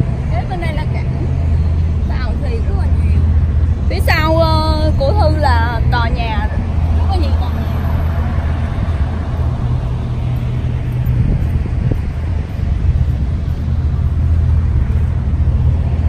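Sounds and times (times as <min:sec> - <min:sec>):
low engine rumble: 0:00.0 - 0:16.0
outdoor background noise: 0:00.0 - 0:16.0.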